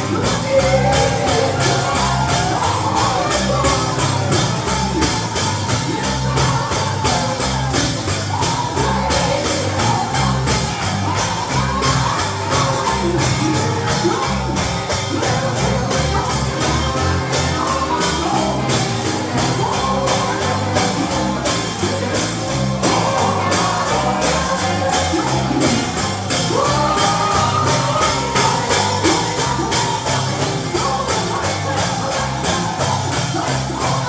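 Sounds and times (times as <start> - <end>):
band playing gospel music: 0.0 - 34.0
person singing: 0.0 - 34.0.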